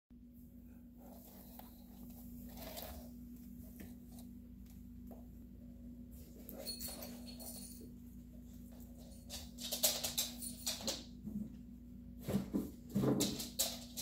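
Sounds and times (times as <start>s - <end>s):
low electrical hum: 0.1s - 14.0s.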